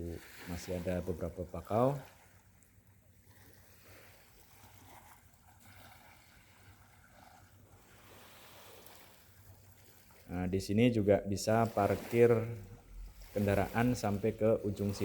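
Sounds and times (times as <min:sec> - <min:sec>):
faint seaside ambience: 0:00.0 - 0:15.0.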